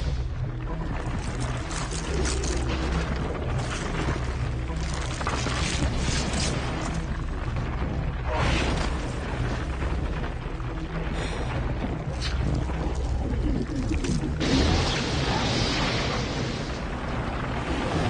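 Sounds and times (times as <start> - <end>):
dark ambient horror music: 0.0 - 18.0.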